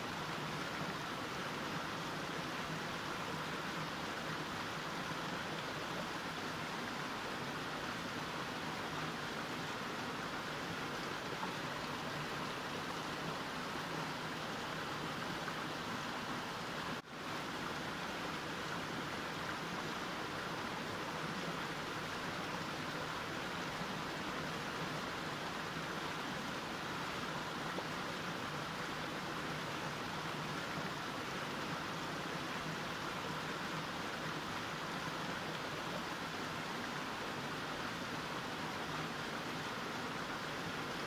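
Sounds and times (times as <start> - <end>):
mountain stream flowing: 0.0 - 41.0.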